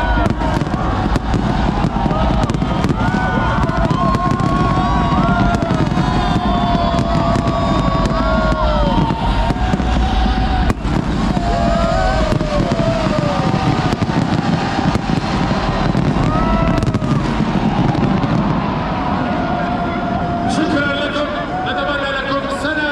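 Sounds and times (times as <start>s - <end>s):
firework whistles: 0.0s - 19.1s
low rumble of booms: 0.0s - 20.3s
firework bursts and crackling: 0.0s - 21.6s.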